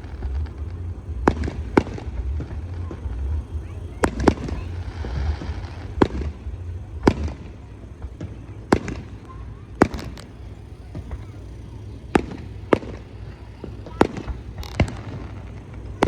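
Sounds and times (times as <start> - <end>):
fireworks shells bursting: 0.0 - 16.0.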